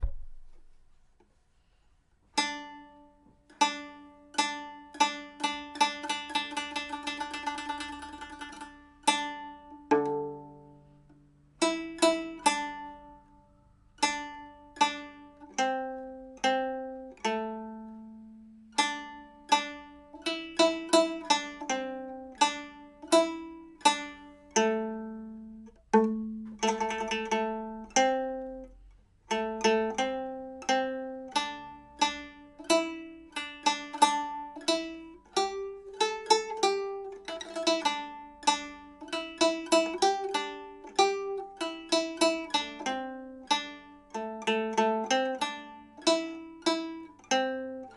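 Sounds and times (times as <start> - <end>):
plucked lute melody: 0.0 - 1.1, 2.3 - 47.9.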